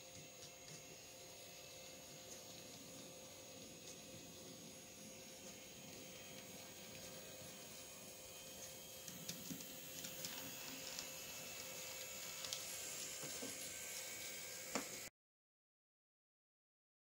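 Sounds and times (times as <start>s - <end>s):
model train motor whir: 0.0s - 15.1s.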